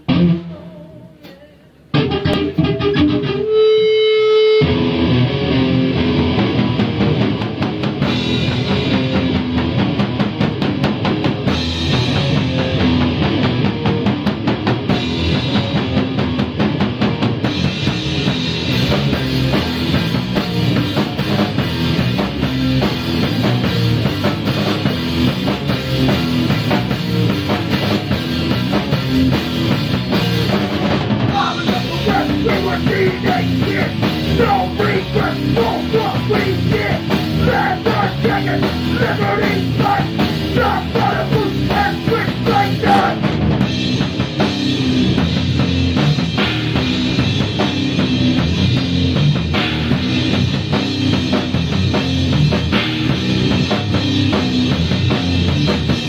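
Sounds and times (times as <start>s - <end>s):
drum kit: 0.0s - 56.0s
rock band playing live: 0.0s - 56.0s.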